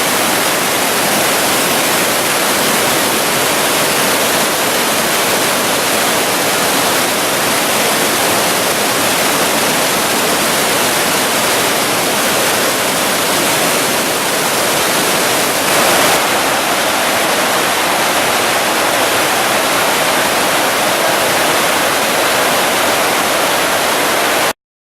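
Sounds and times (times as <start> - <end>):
floodwater rushing: 0.0 - 24.6.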